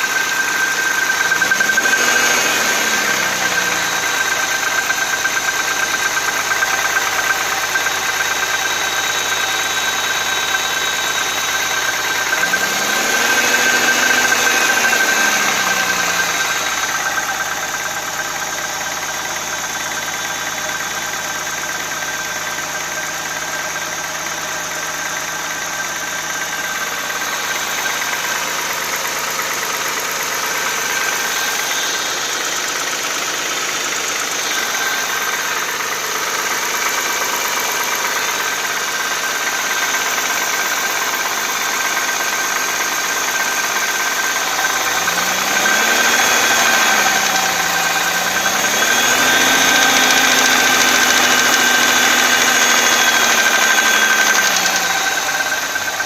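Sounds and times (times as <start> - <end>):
car engine idling with knock: 0.0 - 56.0.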